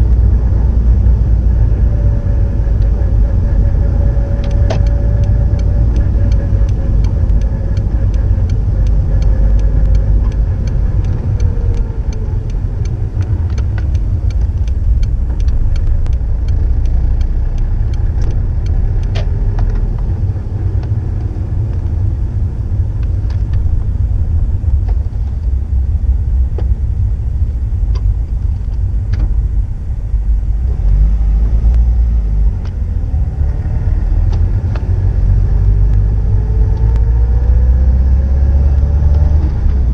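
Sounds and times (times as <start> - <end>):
deep car exhaust rumble: 0.0 - 39.9.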